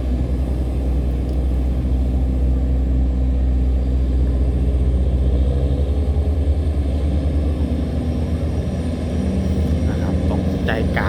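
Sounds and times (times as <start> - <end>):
boat diesel engine rumbling: 0.0 - 11.0.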